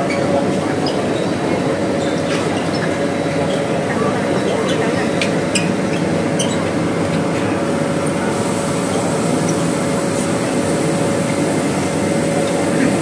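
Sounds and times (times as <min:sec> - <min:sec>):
train car running hum: 0:00.0 - 0:13.0.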